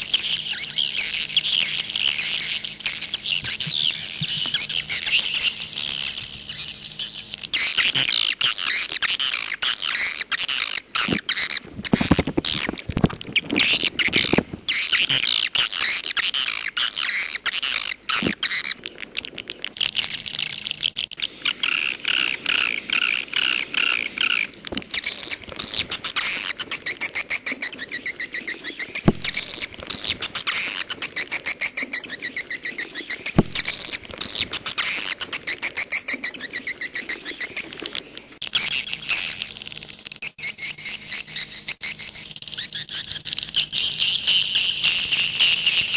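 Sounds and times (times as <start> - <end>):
birds twittering: 0.0 - 45.9.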